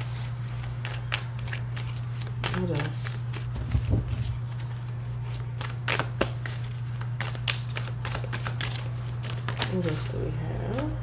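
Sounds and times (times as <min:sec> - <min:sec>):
cards being shuffled: 0:00.0 - 0:10.9
steady low hum: 0:00.0 - 0:11.0.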